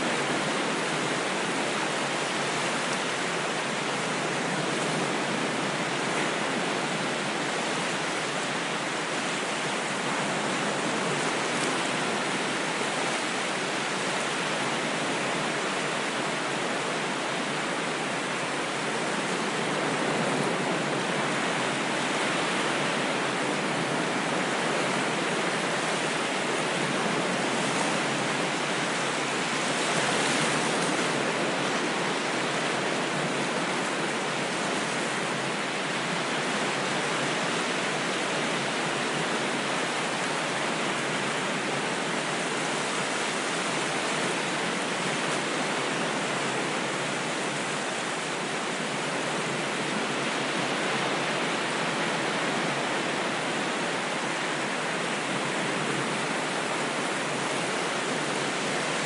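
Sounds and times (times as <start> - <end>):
ocean waves: 0.0 - 59.0.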